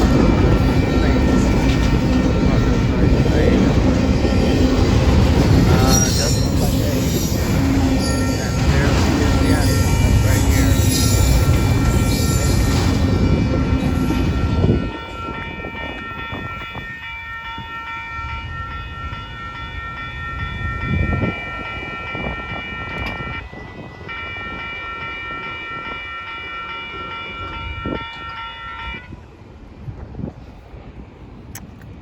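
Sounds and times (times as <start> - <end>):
railroad crossing bell ringing: 0.0 - 29.3
train rumbling past: 0.0 - 32.0.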